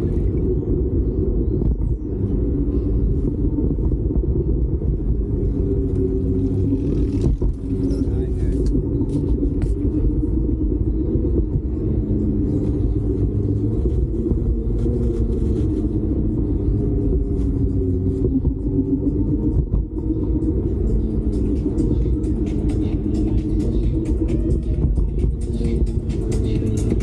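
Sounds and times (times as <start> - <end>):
bicycle rolling noise: 0.0 - 27.0
wind rumble on microphone: 0.0 - 27.0.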